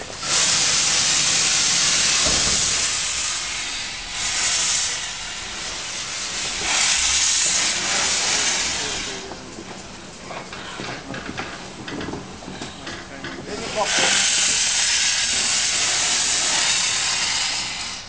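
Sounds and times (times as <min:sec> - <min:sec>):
steam locomotive venting steam: 0:00.0 - 0:18.0.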